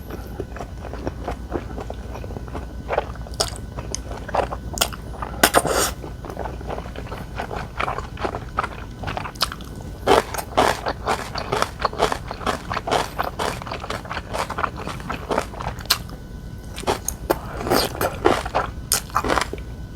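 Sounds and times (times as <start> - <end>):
person biting and chewing food: 0.0 - 19.9.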